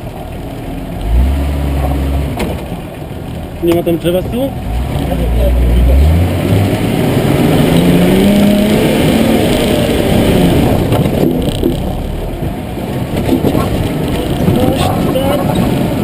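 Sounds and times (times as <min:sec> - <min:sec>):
off-road vehicle engine pulling hard: 0:00.0 - 0:16.0
rumble of tyres and body noise: 0:00.0 - 0:16.0.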